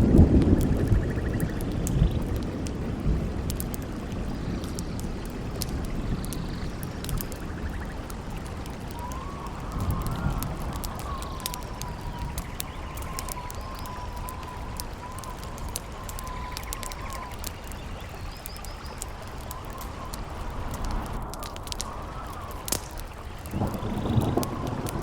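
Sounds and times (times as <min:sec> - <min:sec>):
thunder rumble: 0:00.0 - 0:18.1, 0:19.0 - 0:25.0
campfire crackling and popping: 0:00.0 - 0:25.0
wind howling whistle: 0:00.0 - 0:25.0.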